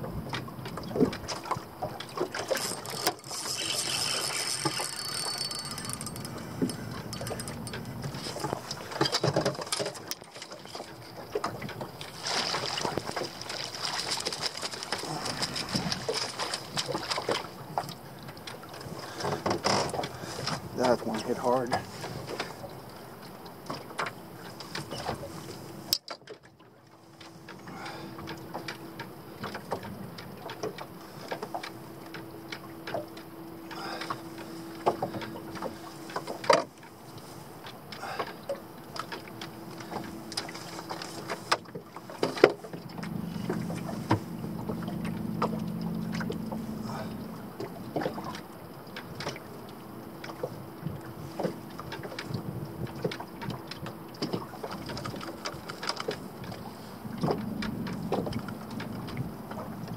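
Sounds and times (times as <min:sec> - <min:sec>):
faint steady hum: 0:00.0 - 0:59.9
water sloshing at hull: 0:00.0 - 0:59.9.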